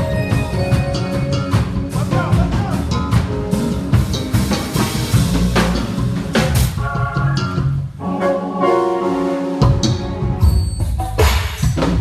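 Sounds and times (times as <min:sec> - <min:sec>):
gospel band playing: 0:00.0 - 0:12.0
keyboard chords: 0:00.0 - 0:12.0.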